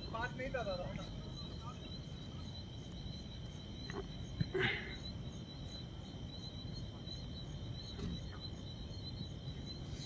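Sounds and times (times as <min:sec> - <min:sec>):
crickets chirping: 0:00.0 - 0:10.0
low background rumble: 0:00.0 - 0:10.0.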